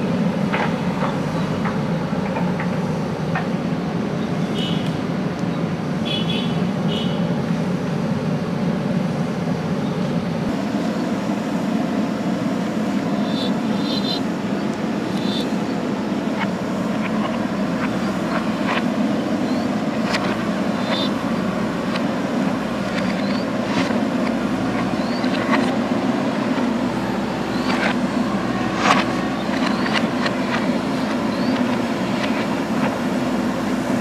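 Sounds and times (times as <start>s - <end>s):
diesel engine running under load: 0.0s - 34.0s.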